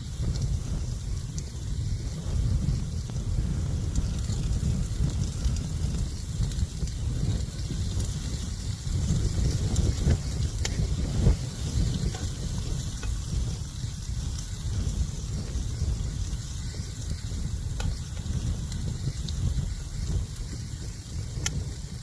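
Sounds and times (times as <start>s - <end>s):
food sizzling in frying pan: 0.0s - 22.0s
wind buffeting microphone: 0.0s - 22.0s.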